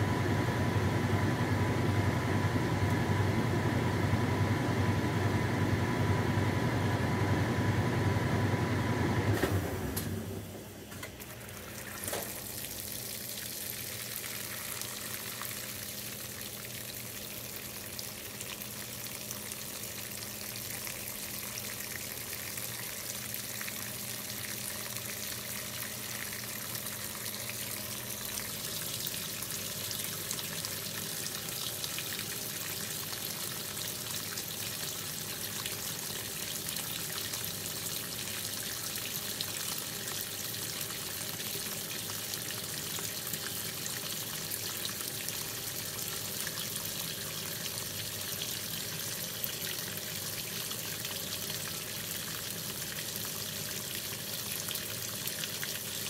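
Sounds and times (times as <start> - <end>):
water filling washing machine: 0.0 - 56.0.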